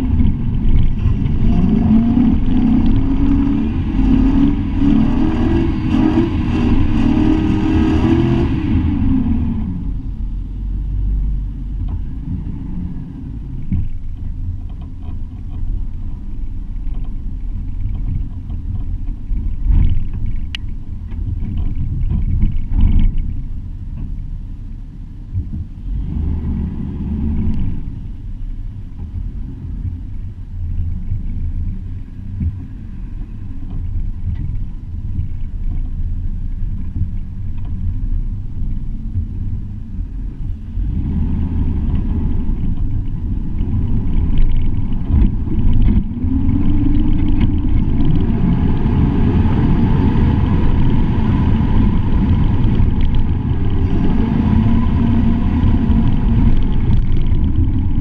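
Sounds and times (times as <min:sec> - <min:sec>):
truck engine rumble: 0:00.0 - 0:58.0.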